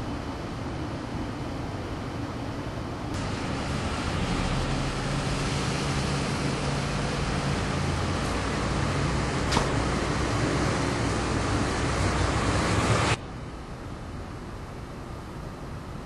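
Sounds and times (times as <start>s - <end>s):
low steady hum: 0.0s - 16.0s
outdoor rumble and hiss: 0.0s - 16.0s.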